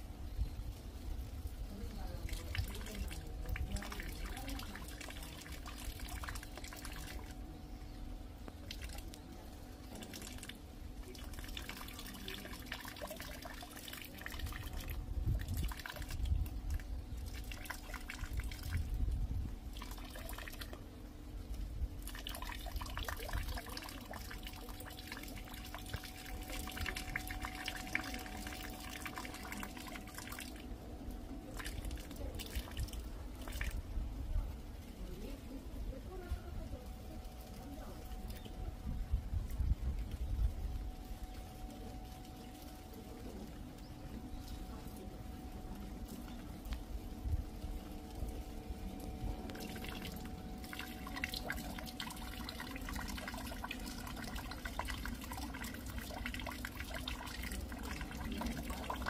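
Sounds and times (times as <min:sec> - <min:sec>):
faint steady hum: 0:00.0 - 0:59.0
rain dripping: 0:00.0 - 0:59.0
rainwater trickling: 0:00.0 - 0:59.0.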